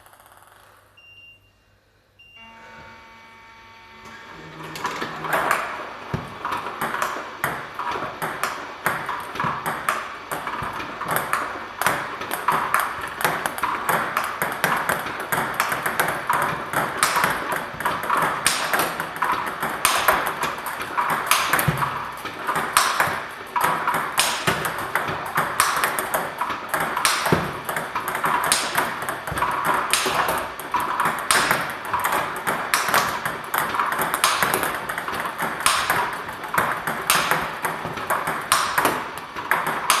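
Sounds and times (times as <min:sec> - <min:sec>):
table tennis ball clicks: 0:05.1 - 0:40.0.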